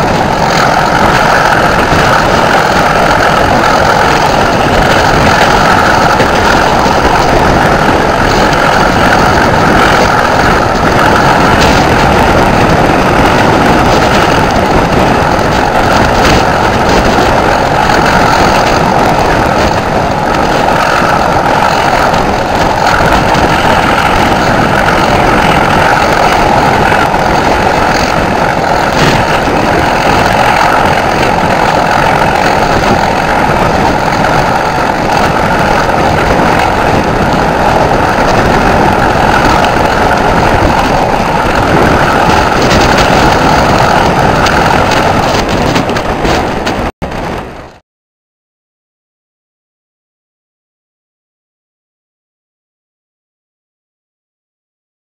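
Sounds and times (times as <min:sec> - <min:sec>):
diesel locomotive engine: 0:00.0 - 0:47.8
rushing wind: 0:00.0 - 0:47.8
wheels rumbling on rails: 0:00.0 - 0:47.8.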